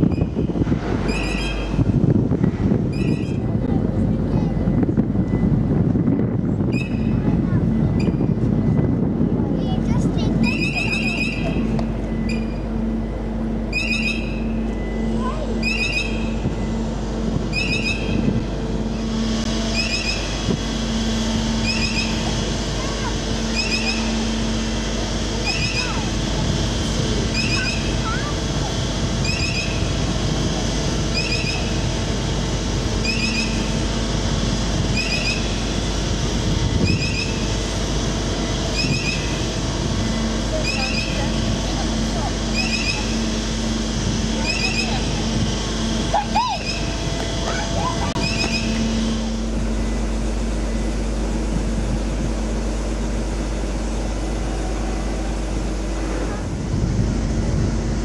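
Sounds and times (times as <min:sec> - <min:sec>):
ship engines rumbling: 0:00.0 - 0:58.0.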